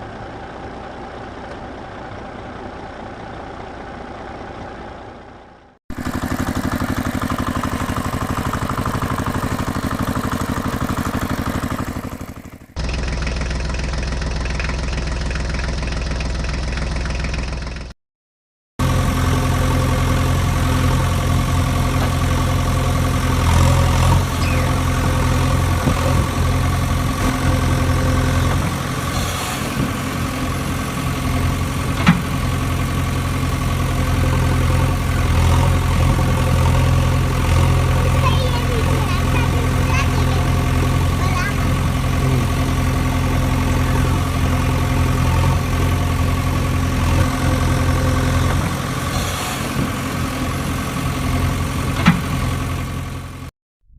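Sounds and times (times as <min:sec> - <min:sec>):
engine idling: 0:00.0 - 0:17.9, 0:18.8 - 0:53.5.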